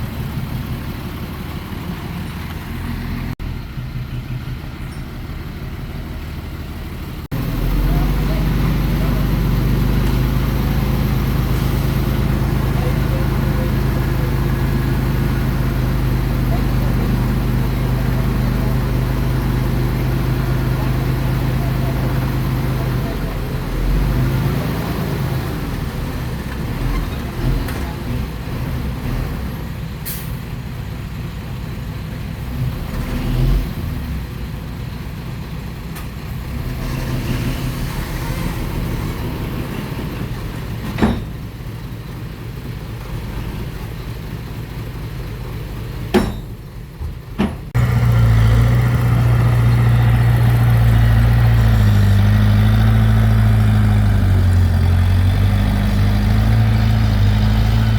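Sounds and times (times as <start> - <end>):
heavy diesel engine running: 0.0 - 32.8, 33.7 - 57.9.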